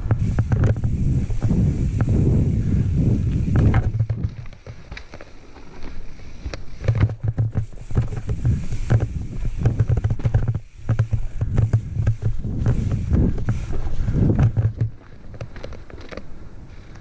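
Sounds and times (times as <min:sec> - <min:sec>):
bike rattling and clicking: 0:00.0 - 0:17.0.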